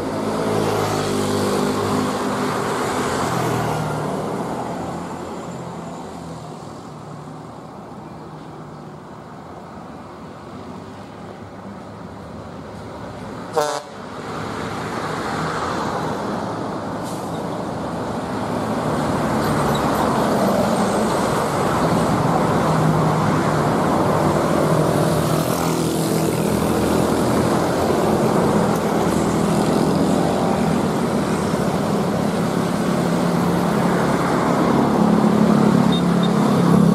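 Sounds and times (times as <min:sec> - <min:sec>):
bus diesel engine drone: 0:00.0 - 0:36.9.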